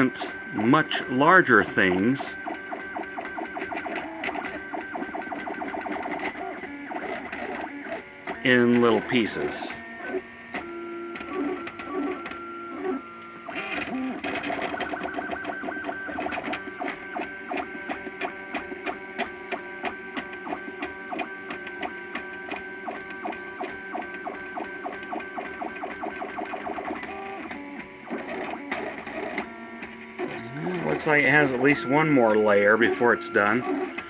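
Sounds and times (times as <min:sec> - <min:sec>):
stepper motors whining: 0:00.0 - 0:34.0.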